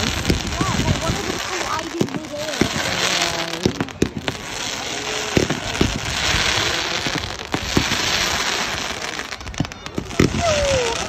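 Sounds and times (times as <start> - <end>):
firework bangs: 0.0 - 11.0
fireworks rockets hissing: 0.0 - 11.0.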